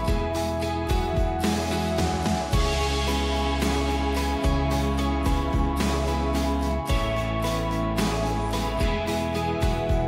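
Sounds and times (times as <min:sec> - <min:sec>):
sustained chords over bass line: 0:00.0 - 0:10.0.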